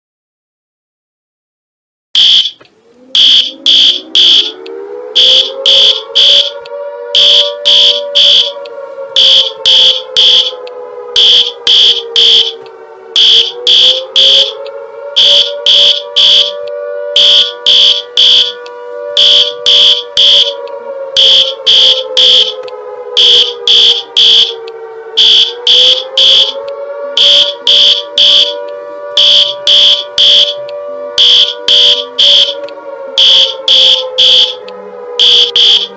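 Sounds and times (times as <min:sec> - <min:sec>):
high-pitched alarm beeps: 0:02.2 - 0:28.6, 0:29.2 - 0:32.6, 0:33.2 - 0:34.6, 0:35.2 - 0:35.9
siren wail: 0:02.2 - 0:35.9.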